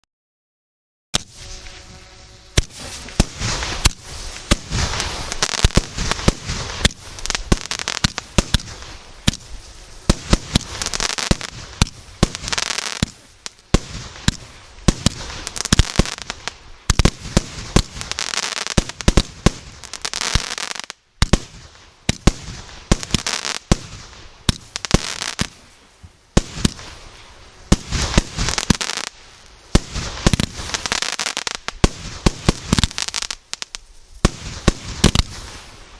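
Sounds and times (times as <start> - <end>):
noisy firework bursts: 1.2 - 35.9
firework battery bangs: 2.5 - 25.6, 27.7 - 33.3, 34.2 - 35.7.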